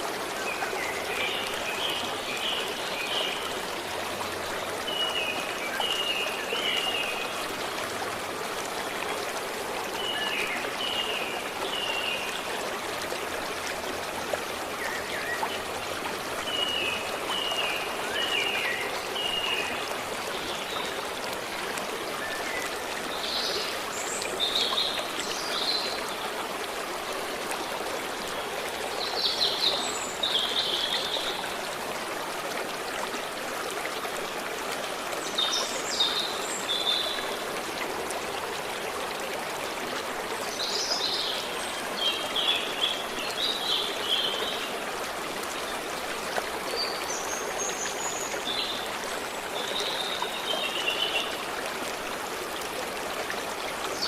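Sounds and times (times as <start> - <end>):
stream flowing and trickling: 0.0 - 54.0.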